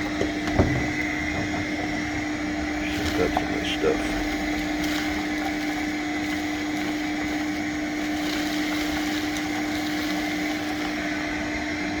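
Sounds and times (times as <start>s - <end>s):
shop vac running: 0.0s - 12.0s.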